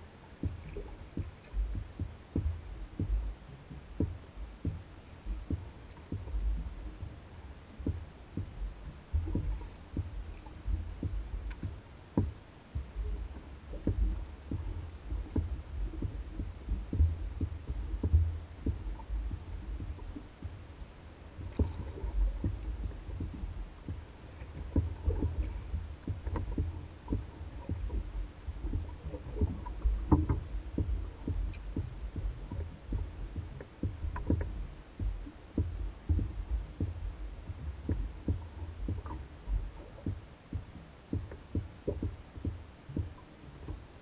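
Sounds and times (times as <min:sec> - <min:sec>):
steady low rumble: 0:00.0 - 0:44.0
waves lapping against canoe hull: 0:00.0 - 0:44.0.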